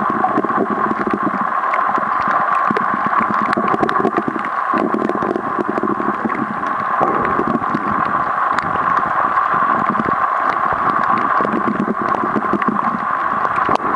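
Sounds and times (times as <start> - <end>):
underwater hiss: 0.0 - 13.9.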